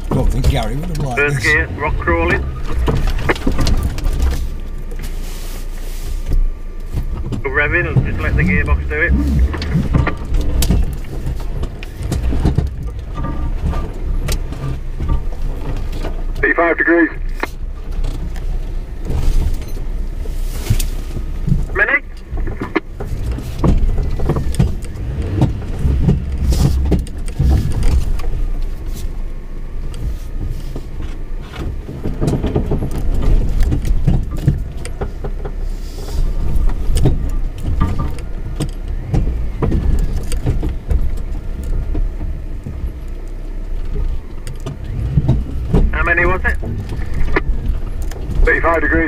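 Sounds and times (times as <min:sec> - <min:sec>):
knocks and rattles: 0:00.0 - 0:01.5, 0:02.1 - 0:05.1, 0:06.3 - 0:16.4, 0:17.4 - 0:28.8, 0:29.8 - 0:49.0
vehicle rumble: 0:00.0 - 0:49.0.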